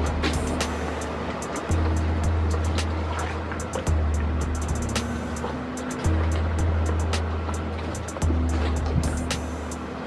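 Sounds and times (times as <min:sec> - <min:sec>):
high percussion ticks: 0:00.0 - 0:09.8
deep bass music: 0:00.0 - 0:10.0.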